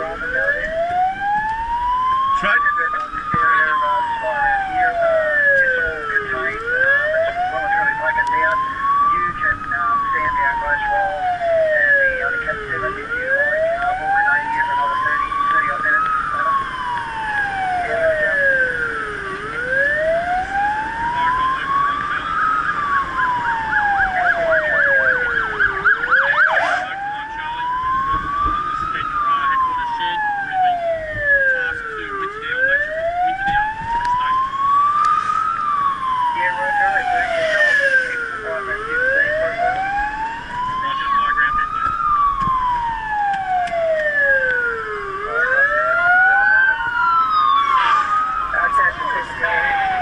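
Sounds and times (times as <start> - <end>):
engine and road noise: 0.0 - 50.0
fire truck siren wailing: 0.0 - 50.0.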